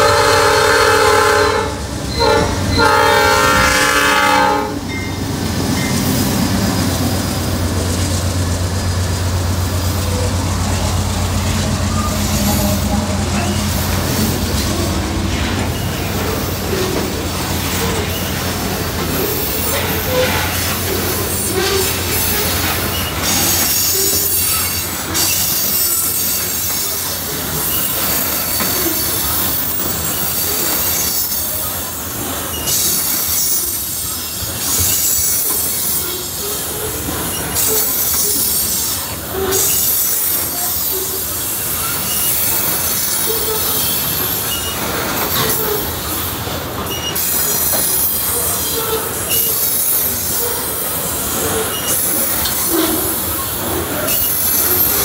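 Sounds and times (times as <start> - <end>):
train rolling rumble: 0.0 - 55.0
train wheels squealing: 9.7 - 55.0.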